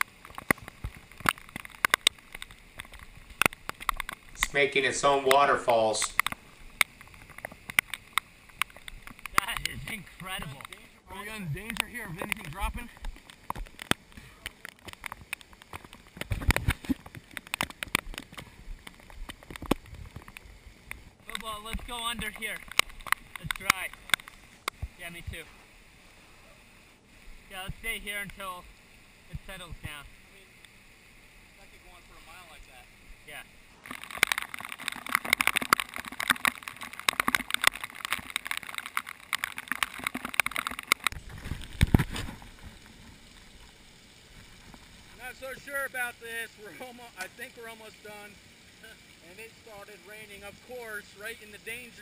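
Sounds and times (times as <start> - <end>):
rain pattering: 0.0 - 25.5, 27.0 - 28.7, 31.6 - 52.0
water running hiss: 0.0 - 52.0.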